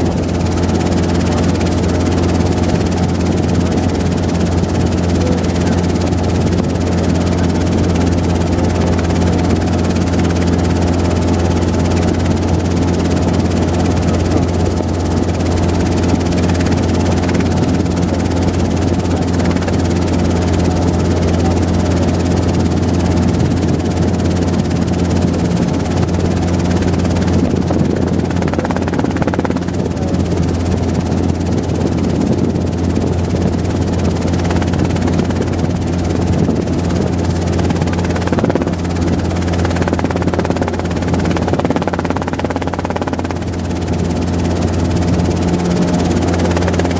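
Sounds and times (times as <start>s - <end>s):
helicopter rotor and engine drone: 0.0s - 46.9s.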